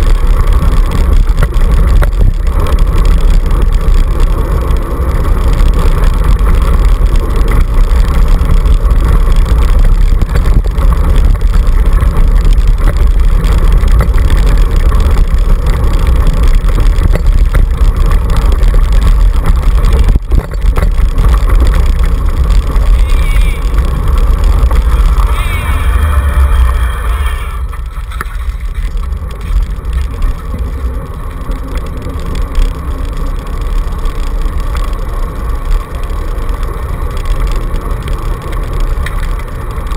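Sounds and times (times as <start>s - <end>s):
scooter wheels rolling on dirt: 0.0s - 39.9s
wind buffeting camera: 0.0s - 39.9s.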